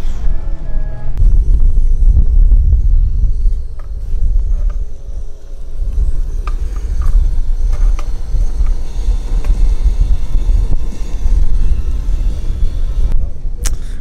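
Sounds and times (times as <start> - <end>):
wind buffeting microphone: 1.1 - 14.0.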